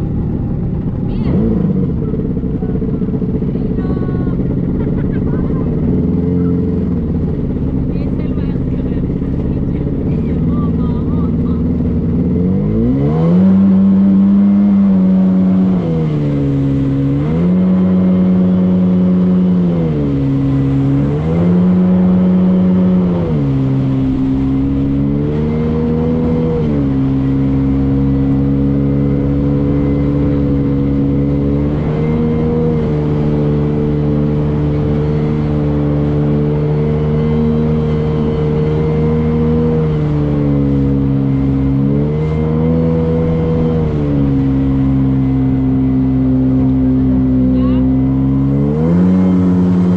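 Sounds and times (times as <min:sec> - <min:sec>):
motorboat engine revving: 0:00.0 - 0:49.9.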